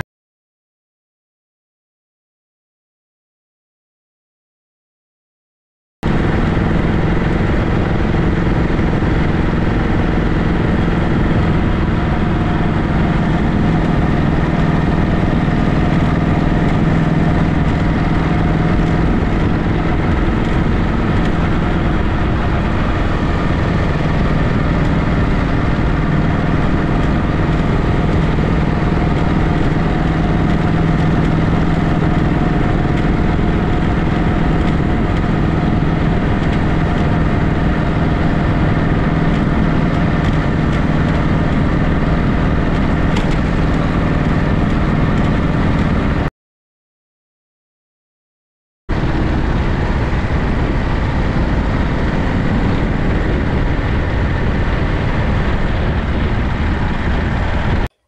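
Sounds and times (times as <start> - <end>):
motorcycle engine running: 6.0 - 46.3, 48.9 - 58.0.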